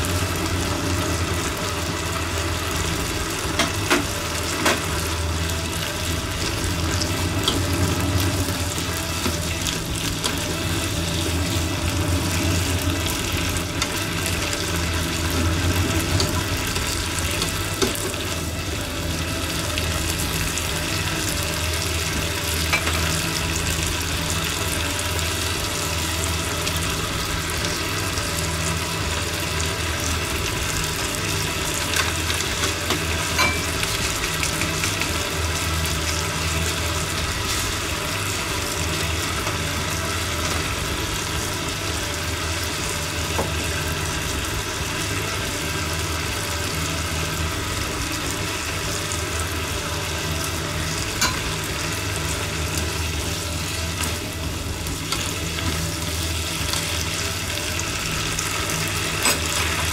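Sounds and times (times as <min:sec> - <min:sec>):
peppers sizzling in frying pan: 0:00.0 - 0:59.9
steady low hum: 0:00.0 - 0:59.9.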